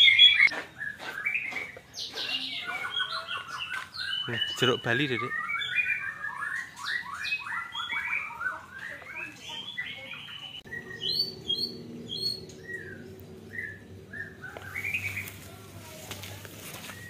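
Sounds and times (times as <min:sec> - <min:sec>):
clear whistled bird notes: 0:00.0 - 0:15.4
small birds chirping: 0:00.0 - 0:17.0.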